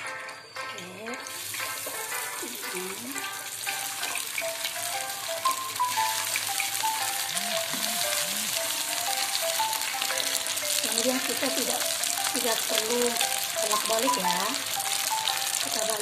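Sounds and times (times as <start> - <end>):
background music melody: 0.0 - 16.0
chicken nuggets deep-frying: 0.0 - 16.0.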